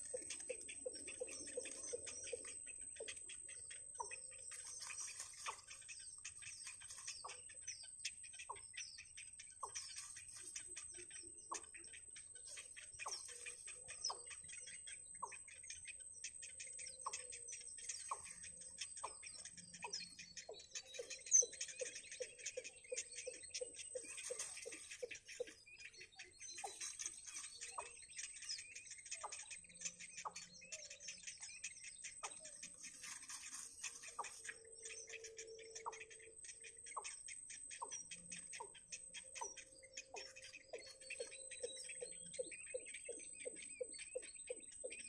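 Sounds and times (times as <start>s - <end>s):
baby birds chirping: 0.0s - 45.0s.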